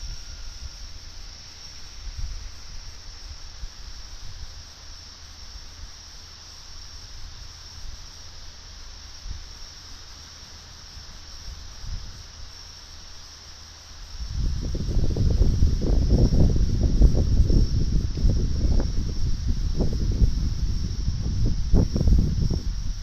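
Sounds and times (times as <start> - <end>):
night insects chirring: 0.0 - 23.0.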